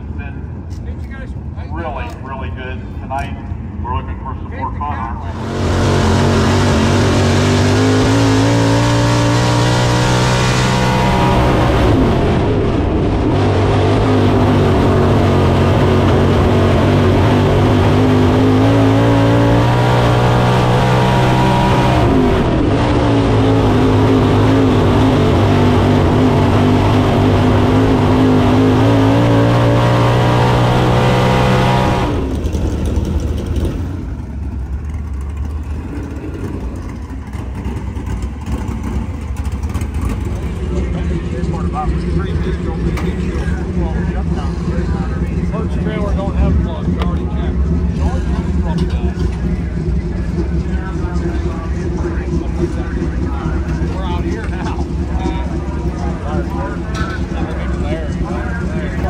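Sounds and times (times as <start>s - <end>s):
racing engine at full throttle: 2.0s - 59.0s.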